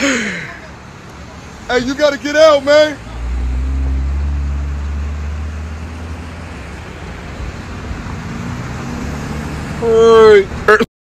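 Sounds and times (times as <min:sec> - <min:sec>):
vehicle engine rumbling: 0:00.0 - 0:10.9.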